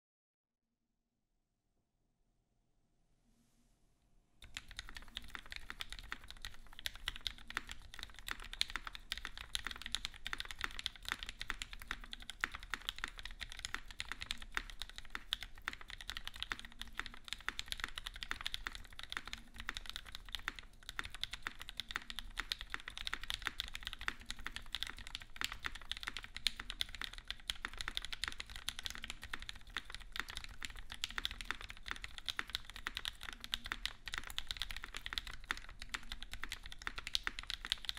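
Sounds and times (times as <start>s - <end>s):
mechanical keyboard typing: 4.4s - 37.9s.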